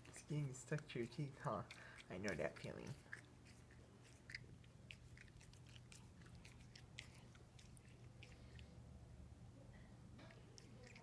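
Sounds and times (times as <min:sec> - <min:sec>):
dog chewing wet clicks: 0:00.0 - 0:08.8, 0:10.2 - 0:11.0.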